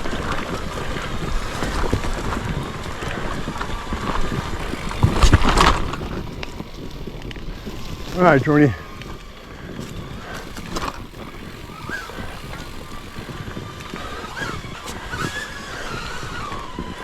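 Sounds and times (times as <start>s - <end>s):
bike tyre and trail noise: 0.0s - 17.0s
thin wavering whine: 0.0s - 17.0s.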